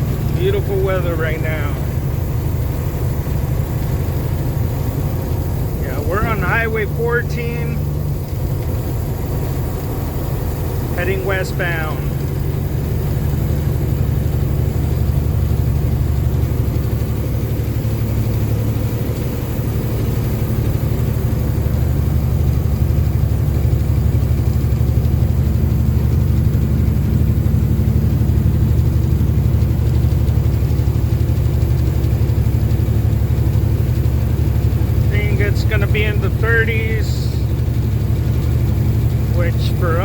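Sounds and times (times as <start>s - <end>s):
road noise: 0.0s - 25.7s, 32.6s - 40.0s
diesel truck engine drone: 0.0s - 40.0s.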